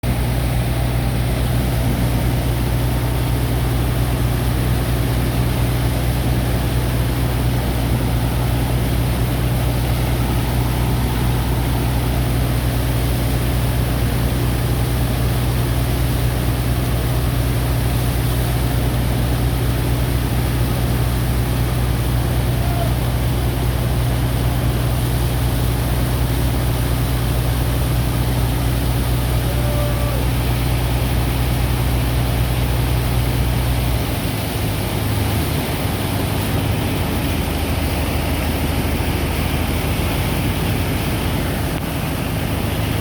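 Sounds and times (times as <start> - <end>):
heavy diesel engine running: 0.0 - 43.0
rushing noise: 0.0 - 43.0.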